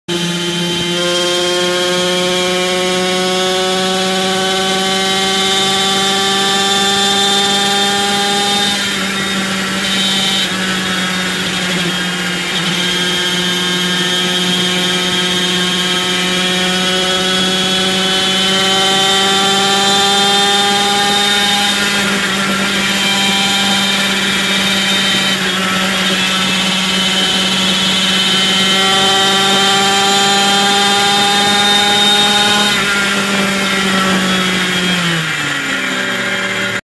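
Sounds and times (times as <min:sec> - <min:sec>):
car engine accelerating: 0:00.1 - 0:36.8
road drone inside car: 0:00.1 - 0:36.8.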